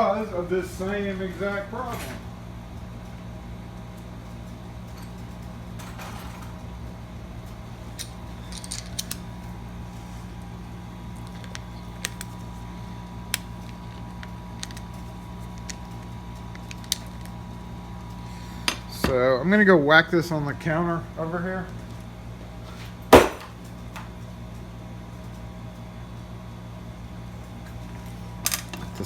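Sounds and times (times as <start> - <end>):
fan-like mechanical hum: 0.0 - 29.0.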